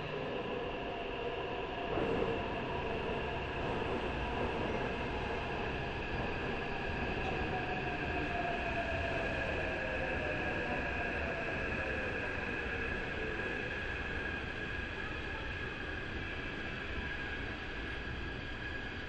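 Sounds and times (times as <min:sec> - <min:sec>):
metro train rumble: 0:00.0 - 0:19.0.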